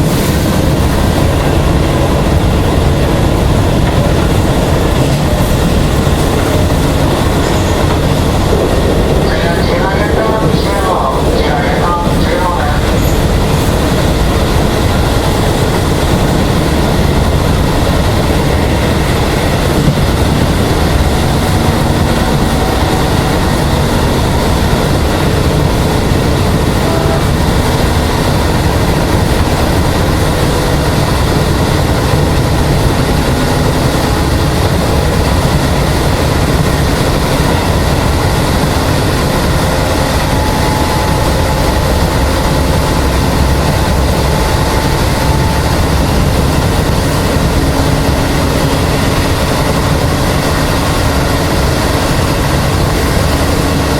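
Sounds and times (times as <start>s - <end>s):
electric train rumbling: 0.0s - 53.9s.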